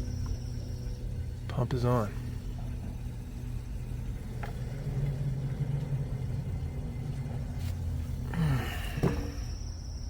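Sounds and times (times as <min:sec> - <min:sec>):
pump humming: 0:00.0 - 0:10.0.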